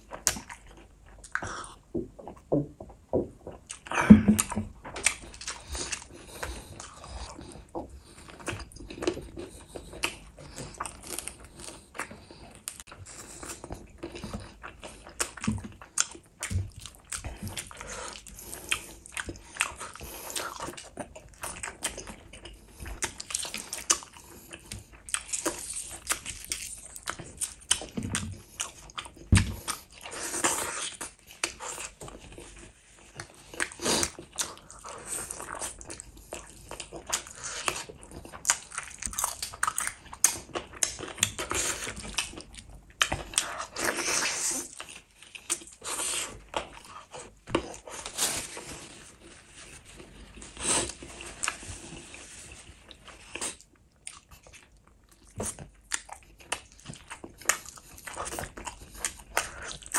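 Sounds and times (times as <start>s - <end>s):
wet chewing and smacking: 0.0s - 59.9s.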